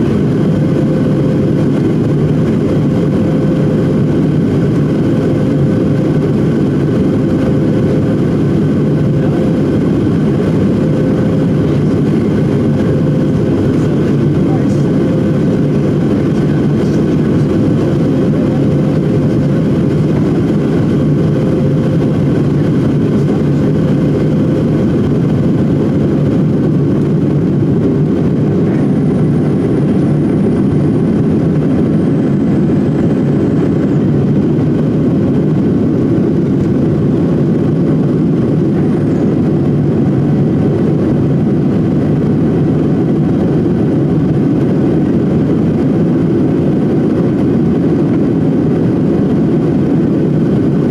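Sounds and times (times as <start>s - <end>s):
faint steady whines: 0.0s - 50.9s
jet engines and airflow drone: 0.0s - 50.9s.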